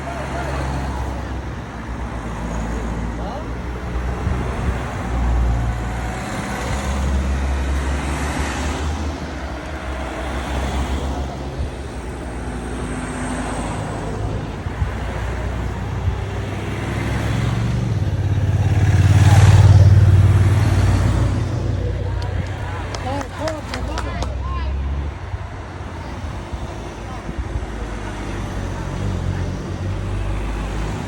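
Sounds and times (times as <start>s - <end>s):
road vehicle passing: 0.0s - 31.0s.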